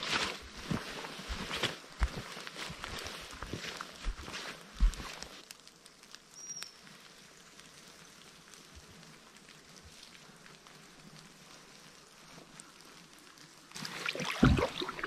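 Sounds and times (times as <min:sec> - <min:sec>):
light rain on foliage: 0:00.0 - 0:15.0.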